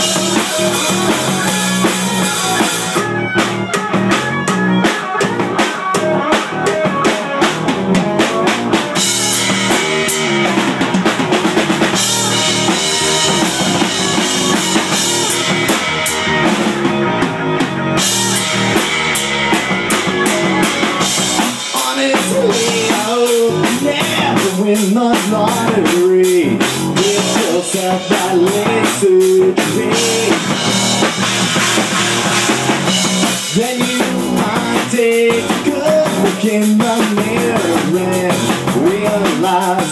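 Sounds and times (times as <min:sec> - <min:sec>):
drum kit: 0:00.0 - 0:39.9
rock band playing live: 0:00.0 - 0:39.9.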